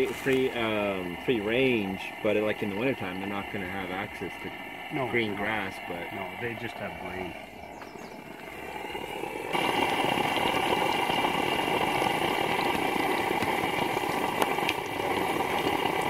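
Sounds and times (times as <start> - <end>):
fish sizzling in hot oil: 0.0 - 16.0
oil popping: 0.0 - 16.0.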